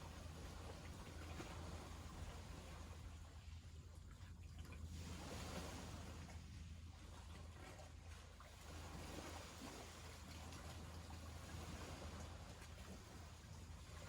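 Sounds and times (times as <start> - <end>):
small waves washing onto sand: 0.0 - 14.0.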